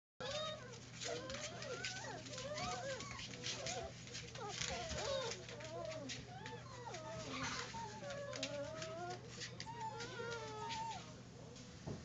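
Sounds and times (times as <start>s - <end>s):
puppies whining and yelping: 0.2s - 11.1s.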